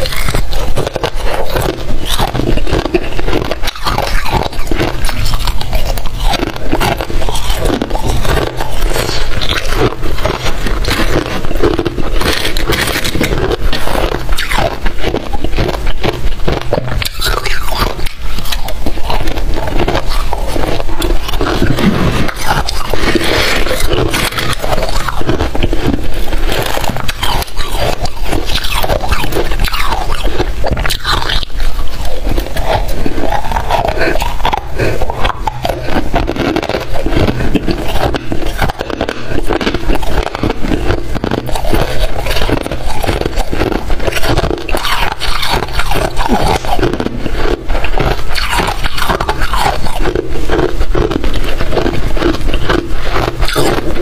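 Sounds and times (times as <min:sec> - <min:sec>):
crunching frost being chewed: 0:00.0 - 0:54.0.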